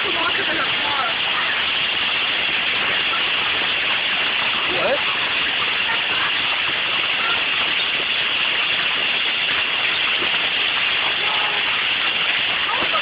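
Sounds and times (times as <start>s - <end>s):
hail falling hard: 0.0s - 13.0s.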